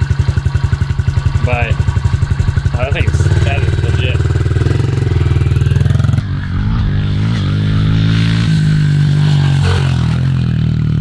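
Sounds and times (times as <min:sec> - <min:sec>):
small motorbike engine revving: 0:00.0 - 0:11.0.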